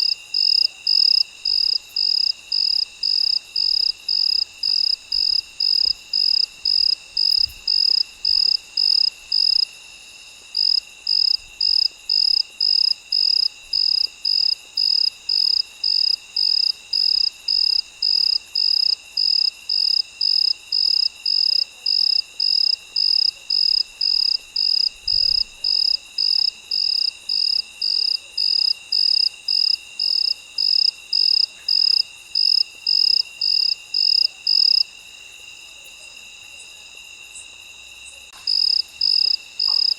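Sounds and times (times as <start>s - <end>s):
cricket chirping: 0.0s - 39.9s
night insects trilling: 0.0s - 39.9s.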